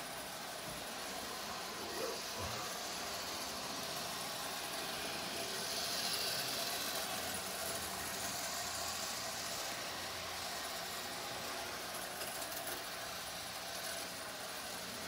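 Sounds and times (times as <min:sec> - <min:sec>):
toy train motor whirring: 0:00.0 - 0:15.0.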